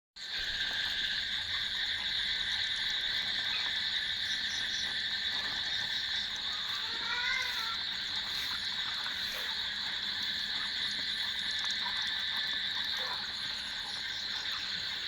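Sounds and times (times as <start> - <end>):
chorus of calling animals: 0.2 - 15.0.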